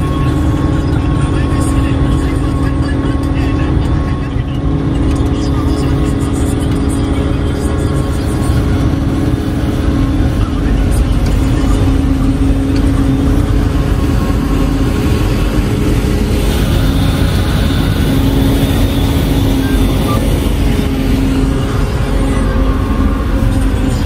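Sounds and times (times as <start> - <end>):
harvester machinery droning: 0.0 - 24.0.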